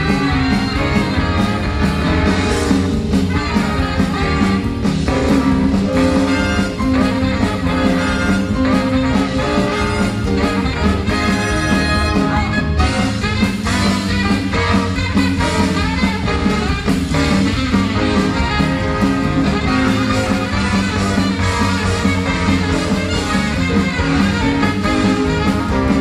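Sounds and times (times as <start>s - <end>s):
swing band playing: 0.0s - 26.0s.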